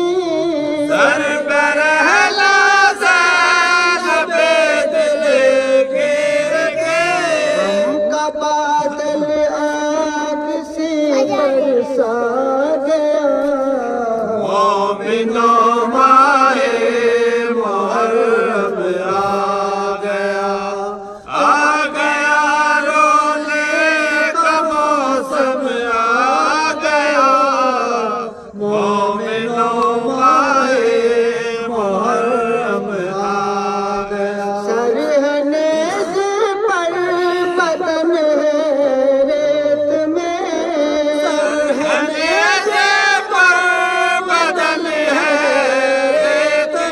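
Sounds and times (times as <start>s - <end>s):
men chanting a lament: 0.0s - 46.9s.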